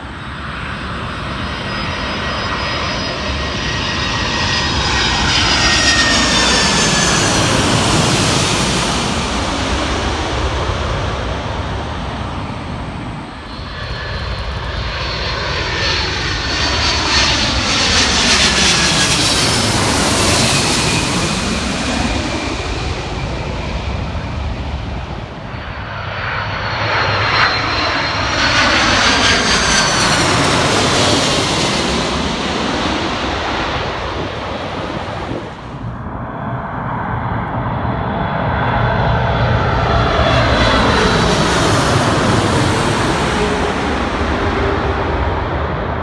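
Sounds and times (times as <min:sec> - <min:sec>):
jet airliner passing overhead: 0:00.0 - 0:46.0.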